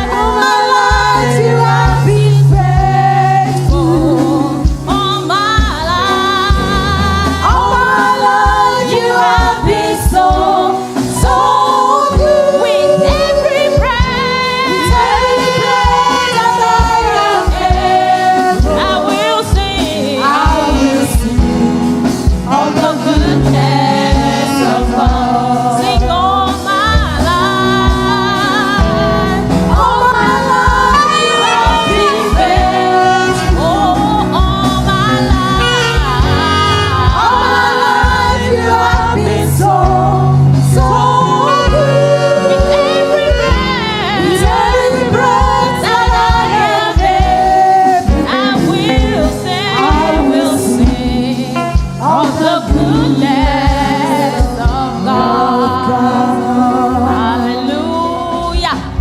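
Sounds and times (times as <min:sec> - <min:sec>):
group singing worship song: 0:00.0 - 0:59.0
instrumental accompaniment with beat: 0:00.0 - 0:59.0.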